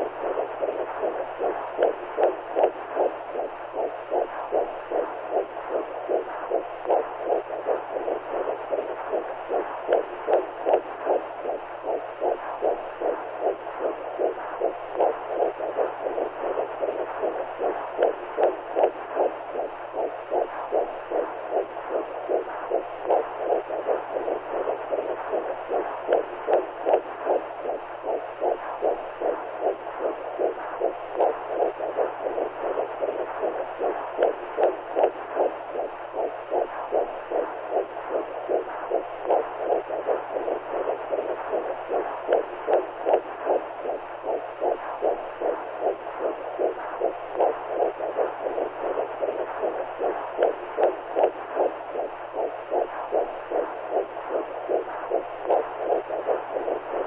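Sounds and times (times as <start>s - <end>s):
faint steady hum: 0.0s - 57.0s
whooshing heartbeat pulse: 0.0s - 57.0s.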